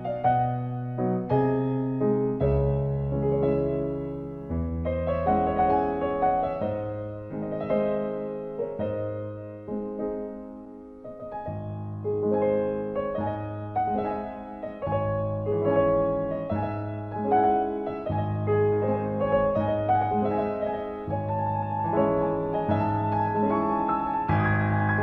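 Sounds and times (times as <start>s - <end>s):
gentle slow piano music: 0.0s - 25.0s.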